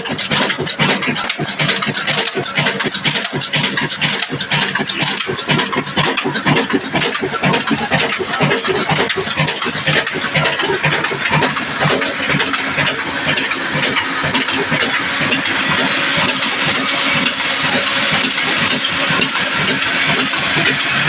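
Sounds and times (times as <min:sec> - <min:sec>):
diesel engine knocking: 0:00.0 - 0:21.0.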